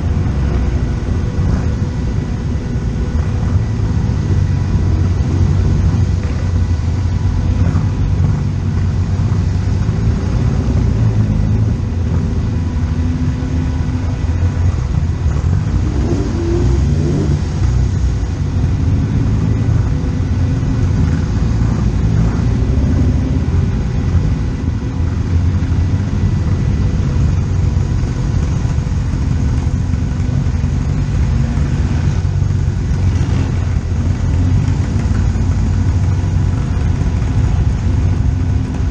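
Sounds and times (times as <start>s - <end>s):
racing car engine rumbling: 0.0s - 38.9s.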